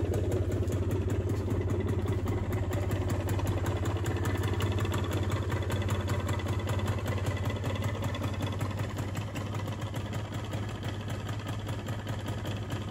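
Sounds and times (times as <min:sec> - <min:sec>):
scooter engine idling: 0:00.0 - 0:12.9.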